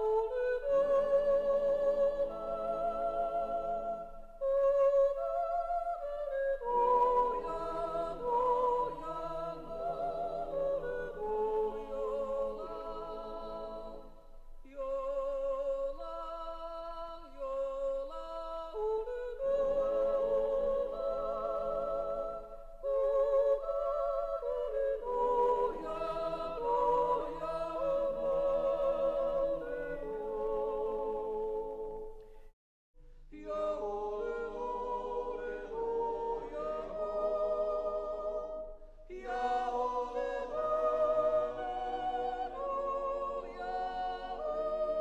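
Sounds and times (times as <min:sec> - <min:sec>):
voices singing in harmony: 0:00.0 - 0:32.4, 0:33.3 - 0:45.0.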